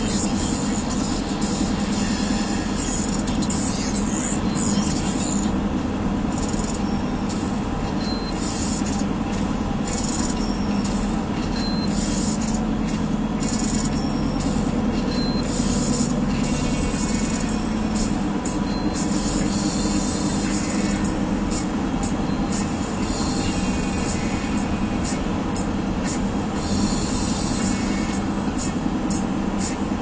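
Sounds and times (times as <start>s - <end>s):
car cabin engine and tyre noise: 0.0s - 30.0s
faint car radio music: 0.0s - 30.0s.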